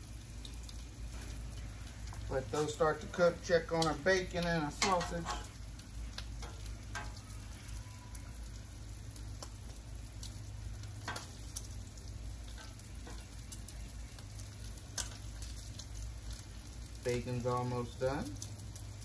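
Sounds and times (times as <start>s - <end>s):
bacon sizzling on griddle: 0.0s - 19.0s.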